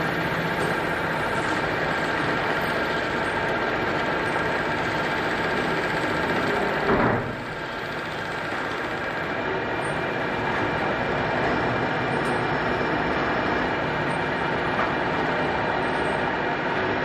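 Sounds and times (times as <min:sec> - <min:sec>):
metal lathe cutting: 0:00.0 - 0:16.8.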